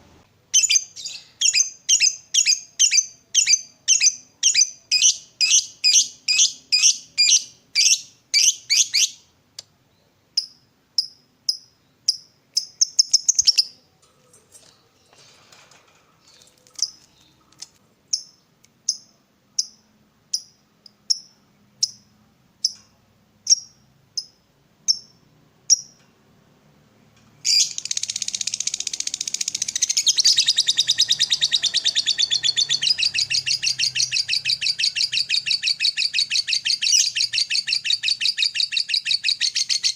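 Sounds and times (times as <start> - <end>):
bird chirping: 0.5 - 26.0, 27.3 - 39.9.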